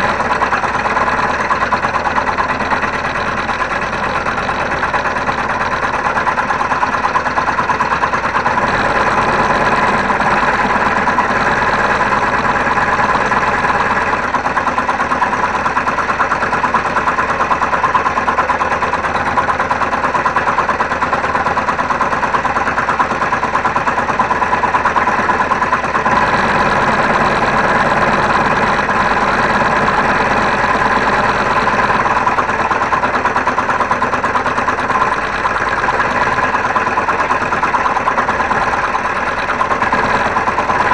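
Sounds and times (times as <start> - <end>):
scroll saw cutting wood: 0.0 - 40.9.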